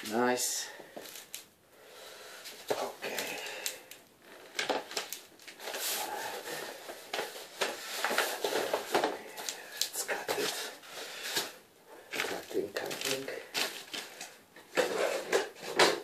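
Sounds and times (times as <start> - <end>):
plastic film rustling and crinkling: 0.8 - 1.5, 2.4 - 16.0.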